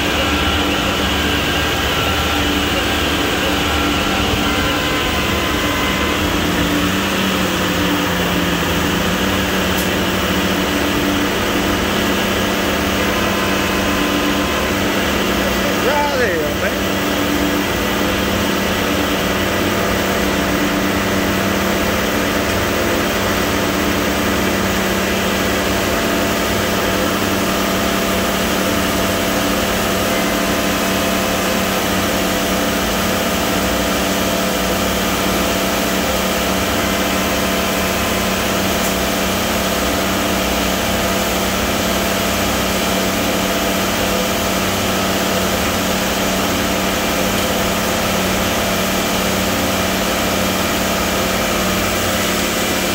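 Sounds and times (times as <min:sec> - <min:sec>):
diesel truck engine running: 0:00.0 - 0:52.9
mixer drum turning: 0:00.0 - 0:52.9.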